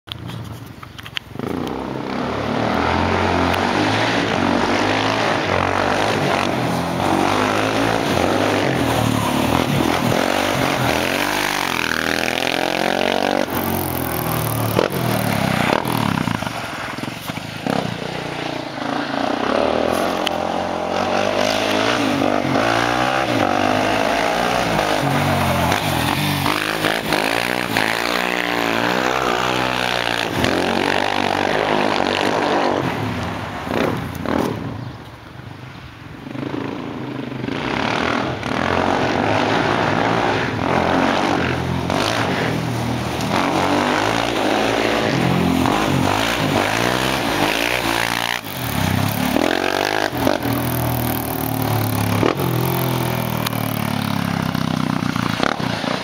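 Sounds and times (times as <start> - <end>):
quad bike engine revving: 1.4 - 34.8, 36.2 - 56.0.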